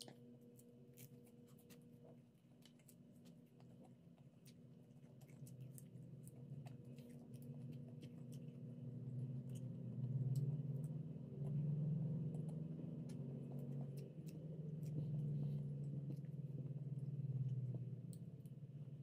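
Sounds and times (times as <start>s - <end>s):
closed-mouth chewing: 0.0s - 19.0s
fingers clicking on food: 0.0s - 19.0s
low steady hum: 0.0s - 19.0s.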